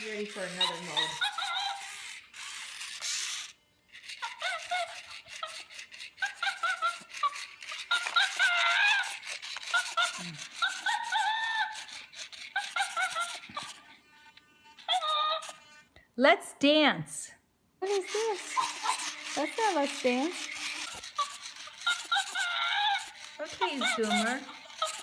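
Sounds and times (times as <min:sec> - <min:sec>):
robot toy squeaky electronic voice: 0:00.0 - 0:13.9, 0:14.7 - 0:15.8, 0:17.8 - 0:25.0
toy motors whirring and clicking: 0:00.0 - 0:16.0, 0:17.8 - 0:25.0.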